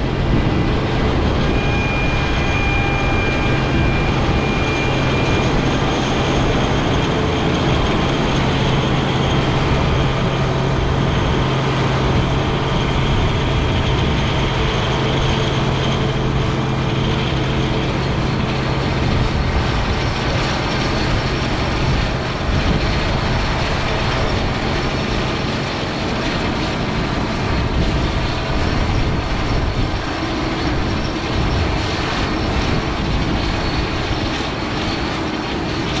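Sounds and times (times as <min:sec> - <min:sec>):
combine harvester machinery drone: 0:00.0 - 0:36.0
steady engine hum: 0:00.0 - 0:36.0.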